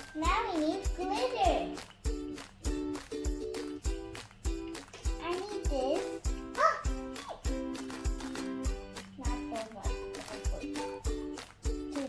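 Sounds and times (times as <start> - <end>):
music with steady drum beat: 0.0 - 12.0.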